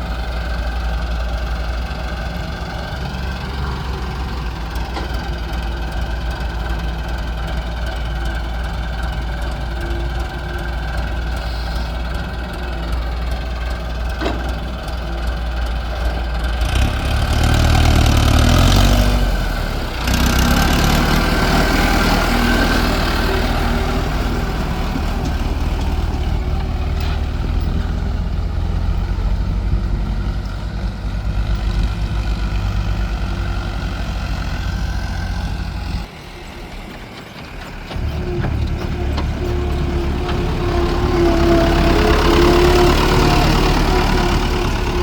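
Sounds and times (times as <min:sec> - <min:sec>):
heavy diesel machinery running: 0:00.0 - 0:45.0.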